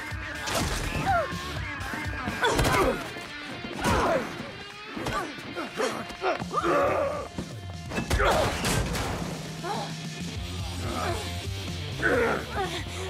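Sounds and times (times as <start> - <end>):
action film music: 0.0 - 13.0.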